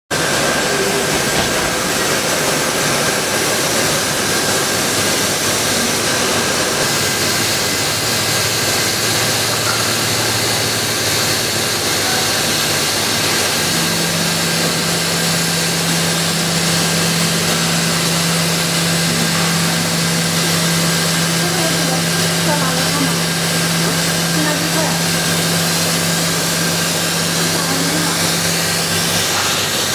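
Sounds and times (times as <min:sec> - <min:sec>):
laser cutter blower whoosh: 0:00.1 - 0:29.9
steady low hum: 0:00.1 - 0:29.9.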